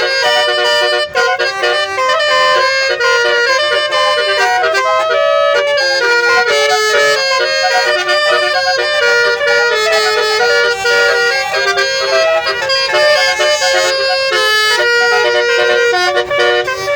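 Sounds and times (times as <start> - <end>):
multi-tone air horn melody: 0.0 - 16.9.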